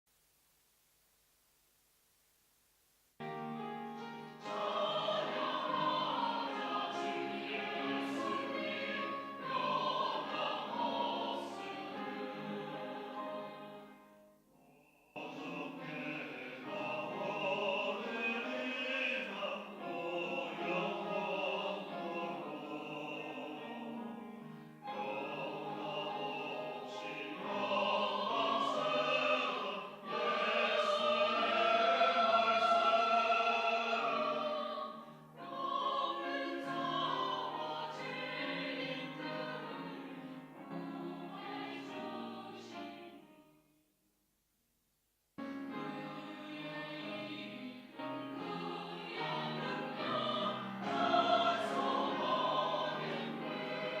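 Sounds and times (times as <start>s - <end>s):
church choir singing: 3.3s - 43.4s, 45.6s - 54.0s.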